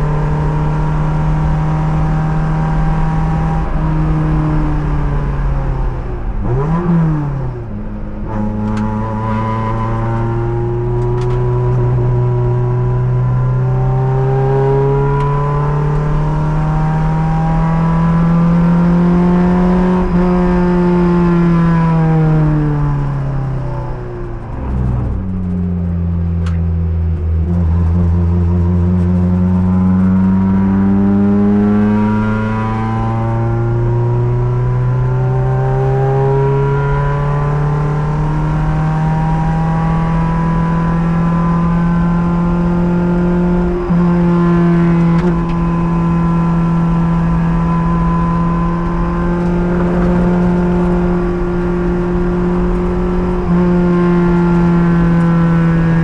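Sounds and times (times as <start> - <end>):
race car engine revving: 0.0 - 56.0
wind and road rumble: 0.0 - 56.0.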